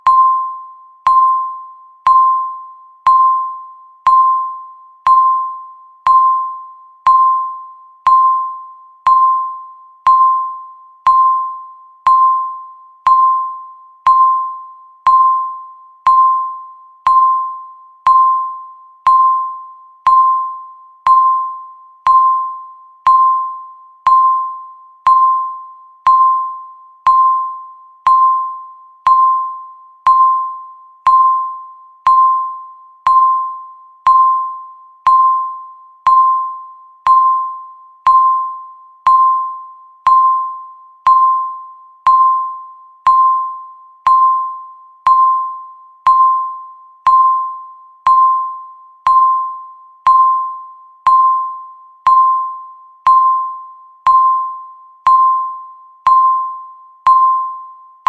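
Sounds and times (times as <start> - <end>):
countdown timer beeping: 0.0 - 58.0.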